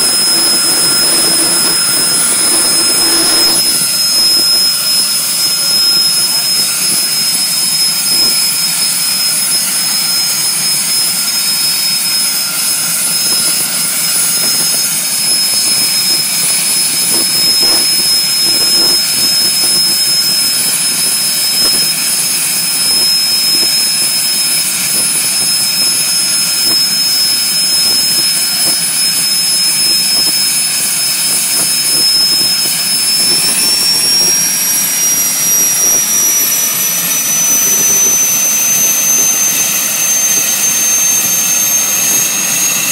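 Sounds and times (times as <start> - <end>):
jet engine whine: 0.0 - 42.9.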